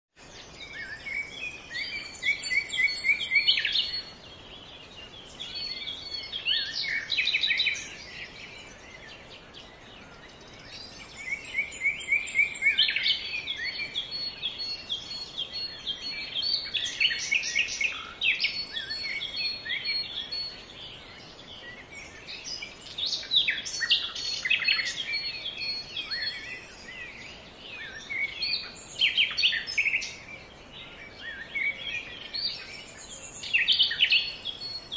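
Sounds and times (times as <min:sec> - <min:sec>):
songbirds chirping and trilling: 0:00.1 - 0:34.9.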